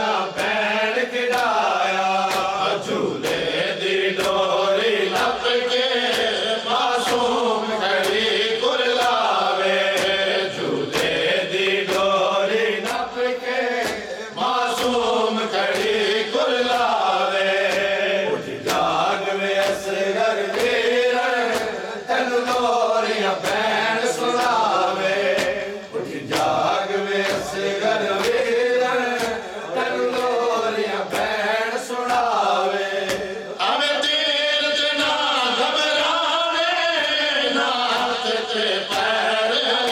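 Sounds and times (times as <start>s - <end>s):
men chanting a lament: 0.0s - 39.9s.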